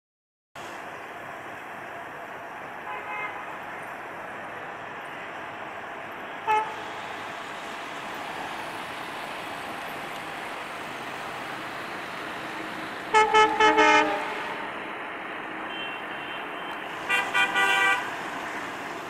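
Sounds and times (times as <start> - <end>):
road traffic hum: 0.6 - 19.0.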